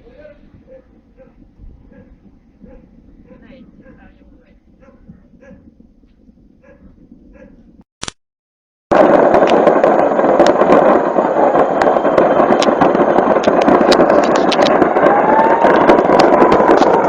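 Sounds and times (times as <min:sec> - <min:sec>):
fire roaring: 0:00.0 - 0:07.8, 0:08.9 - 0:17.0
fireworks crackling: 0:00.0 - 0:07.8, 0:08.9 - 0:17.0.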